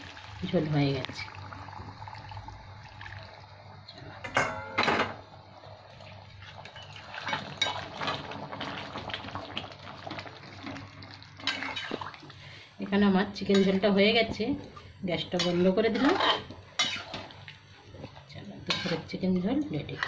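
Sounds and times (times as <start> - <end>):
gravy bubbling and crackling: 0.0 - 4.2, 5.3 - 14.9, 15.9 - 20.0.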